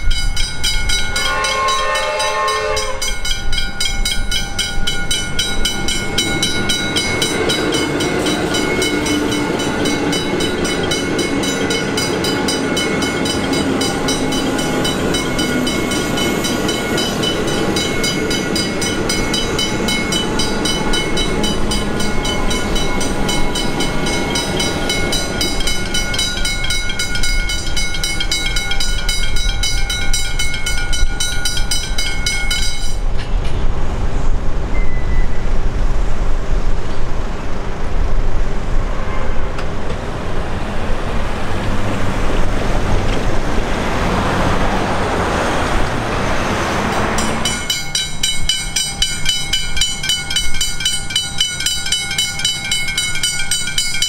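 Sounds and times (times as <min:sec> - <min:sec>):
crossing warning bells ringing: 0:00.0 - 0:33.5, 0:42.7 - 0:54.0
train wheels rumbling: 0:00.0 - 0:54.0.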